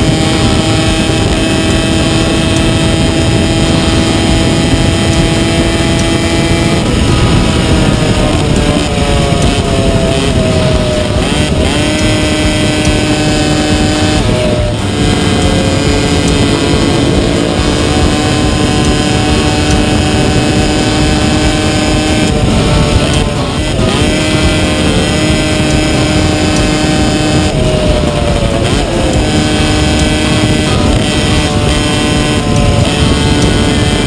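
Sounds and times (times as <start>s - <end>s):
kart engine at high revs: 0.0s - 34.0s
low rumble of wind noise: 0.0s - 34.0s.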